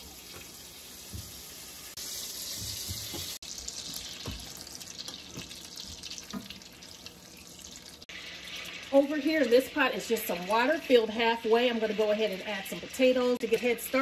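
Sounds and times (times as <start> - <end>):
butter sizzling in saucepan: 0.0 - 14.0.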